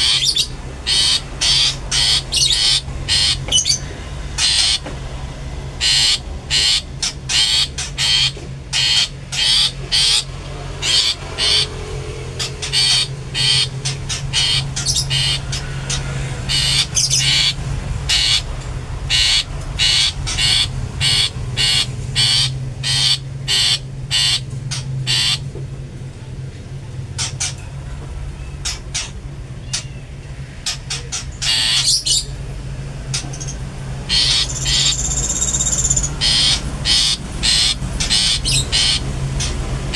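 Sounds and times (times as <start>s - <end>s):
bird harsh calls: 0.0s - 4.9s, 5.7s - 25.5s, 27.1s - 32.4s, 33.0s - 39.9s.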